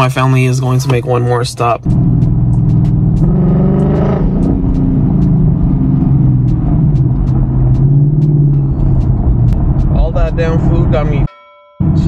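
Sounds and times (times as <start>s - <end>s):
car engine accelerating and cruising: 0.0s - 12.0s.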